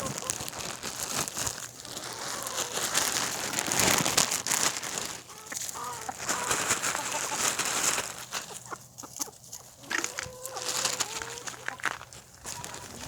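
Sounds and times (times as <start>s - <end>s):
chickens clucking: 0.0s - 13.0s
rustling: 0.0s - 13.0s.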